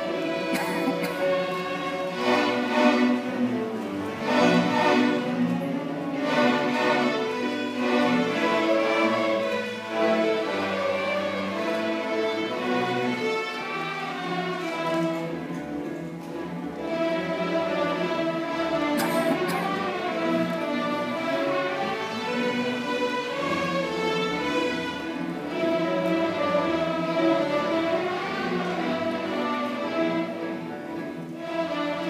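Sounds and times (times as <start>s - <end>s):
string orchestra playing: 0.0s - 32.0s.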